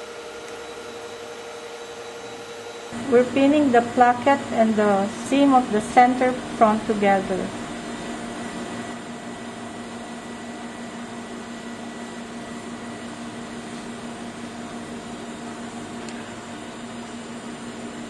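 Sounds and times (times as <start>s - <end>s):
motor hum with low tones: 0.0s - 18.0s.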